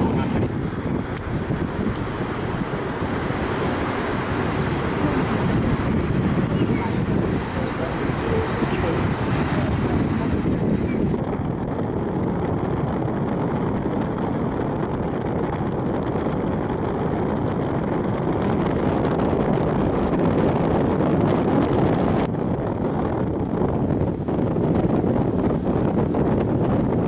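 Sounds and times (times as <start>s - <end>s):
boat engine rumble: 0.0s - 27.0s
hull wash: 0.0s - 27.0s
wind buffeting microphone: 0.0s - 27.0s.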